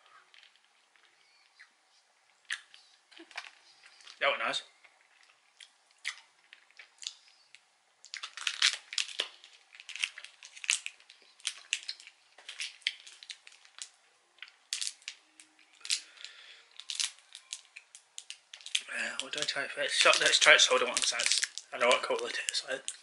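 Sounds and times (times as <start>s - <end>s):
sweet wrapper crinkling: 0.2s - 1.7s, 2.3s - 23.0s.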